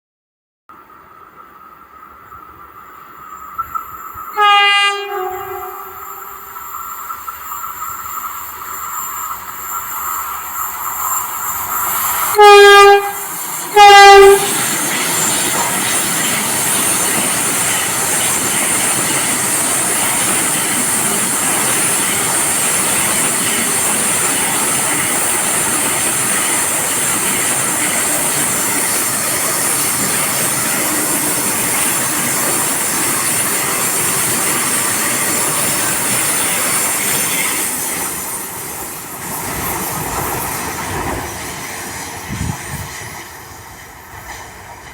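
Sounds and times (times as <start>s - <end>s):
train passing: 0.7s - 44.9s
high hiss: 5.6s - 12.4s, 13.0s - 44.8s.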